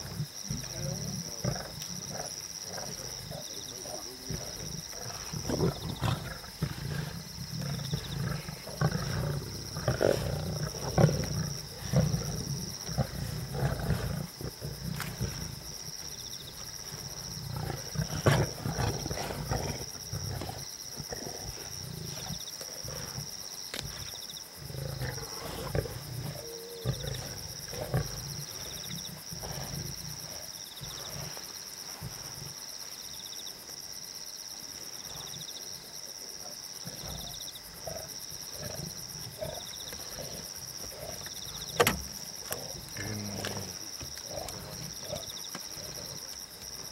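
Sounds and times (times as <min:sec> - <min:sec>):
lions growling: 0:00.0 - 0:32.9, 0:34.8 - 0:46.9.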